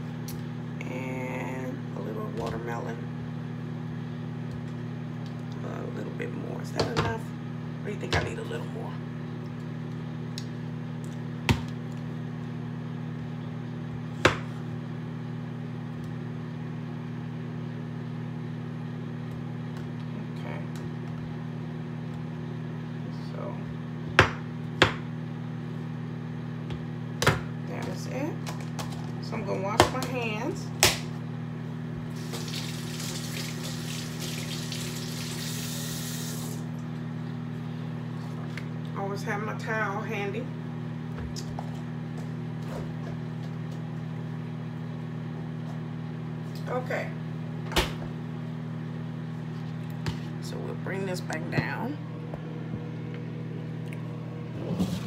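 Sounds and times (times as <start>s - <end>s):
microwave oven humming: 0.0s - 55.0s.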